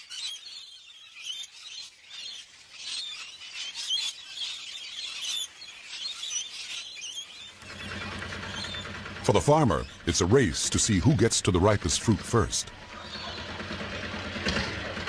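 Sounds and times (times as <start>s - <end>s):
flock of parrots calling: 0.0s - 14.9s.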